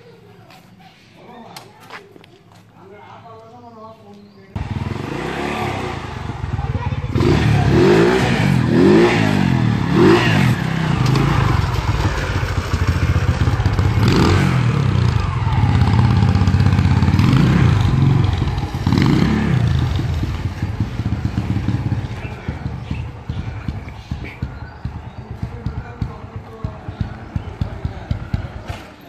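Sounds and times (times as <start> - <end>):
quad bike engine revving: 4.6 - 29.0.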